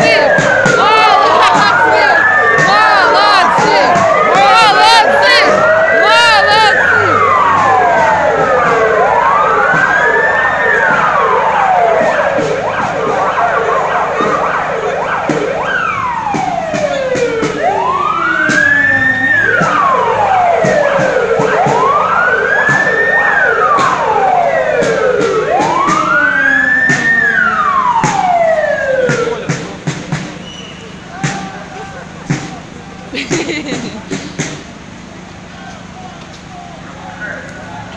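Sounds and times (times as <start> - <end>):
police sirens wailing: 0.0 - 37.9.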